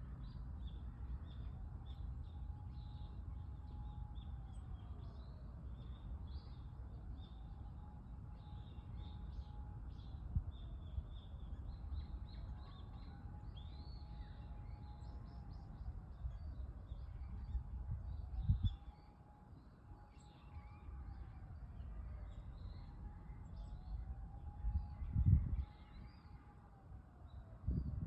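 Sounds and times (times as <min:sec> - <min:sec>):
wind rumble on microphone: 0:00.0 - 0:19.1, 0:20.6 - 0:28.0.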